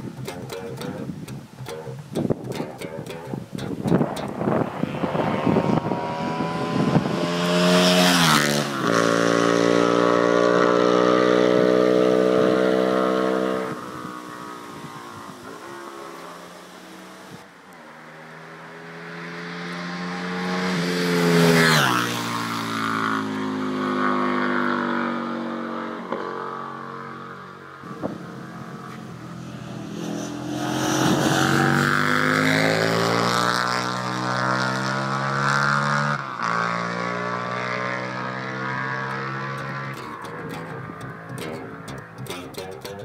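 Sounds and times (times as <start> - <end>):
motorcycle riding by: 4.0 - 42.2.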